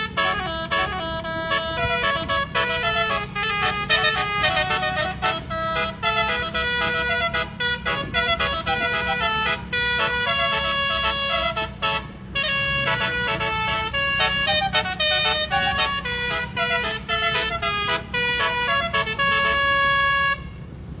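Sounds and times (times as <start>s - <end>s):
air horn playing a melody: 0.0s - 20.7s
steady low rumble: 0.0s - 21.0s.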